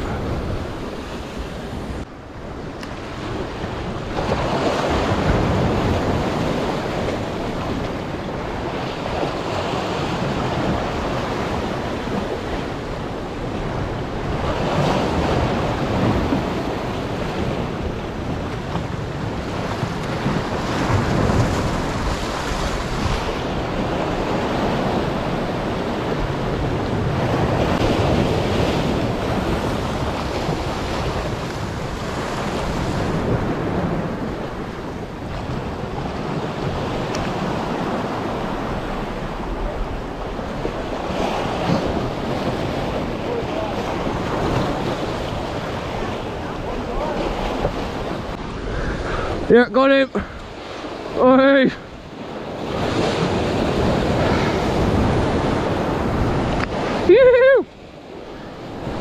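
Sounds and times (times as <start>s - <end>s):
waves washing over rocks: 0.0s - 59.0s
wind buffeting microphone: 0.0s - 59.0s.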